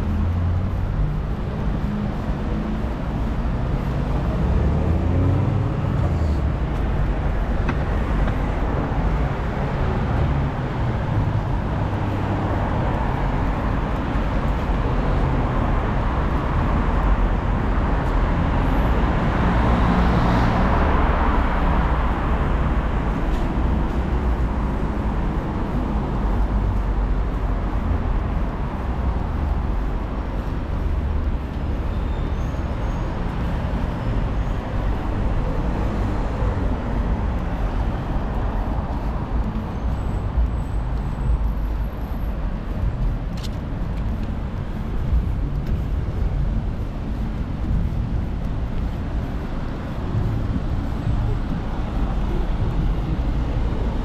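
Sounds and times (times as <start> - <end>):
passing vehicles rumbling: 0.0 - 54.0.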